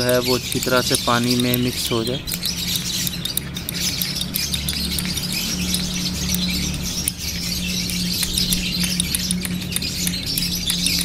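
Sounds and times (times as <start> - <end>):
metal spoon stirring in ceramic cup: 0.0 - 11.0
steady low hum: 0.0 - 11.0.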